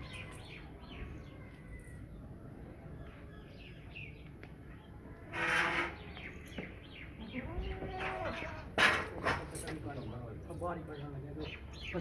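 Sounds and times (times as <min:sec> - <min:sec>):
small birds chirping: 0:00.0 - 0:08.8, 0:09.5 - 0:12.0.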